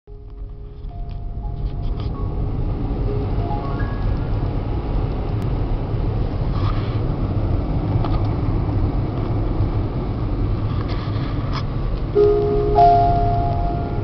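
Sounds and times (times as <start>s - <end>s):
car engine and tyre rumble: 0.1s - 14.0s.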